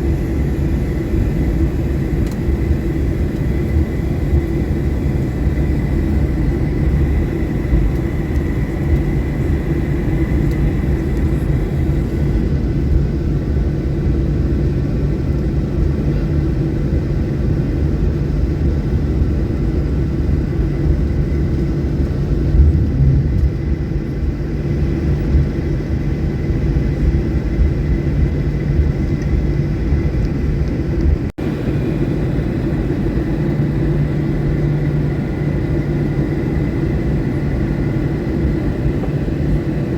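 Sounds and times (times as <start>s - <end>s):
faint steady whine: 0.0s - 13.0s, 18.8s - 39.9s
airliner cabin rumble: 0.0s - 39.9s.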